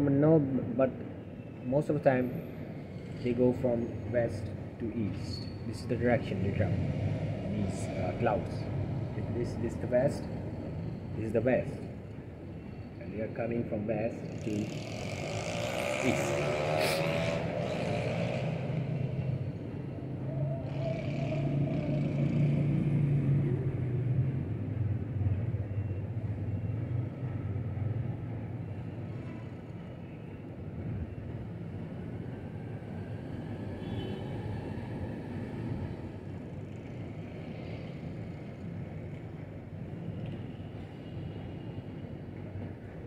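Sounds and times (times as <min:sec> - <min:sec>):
distant traffic rumble: 0:00.9 - 0:43.0.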